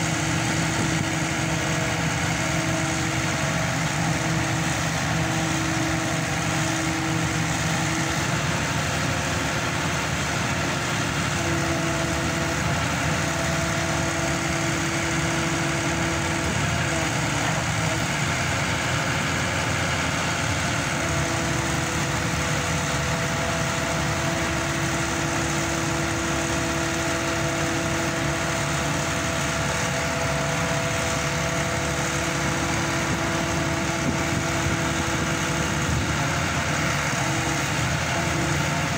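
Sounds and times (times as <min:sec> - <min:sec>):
pile driver engine running: 0:00.0 - 0:38.9
steady whine: 0:00.0 - 0:38.9.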